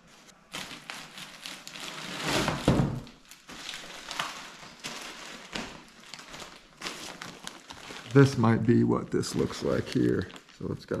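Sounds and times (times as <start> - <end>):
plastic wrapping rustling and crinkling: 0.0 - 11.0.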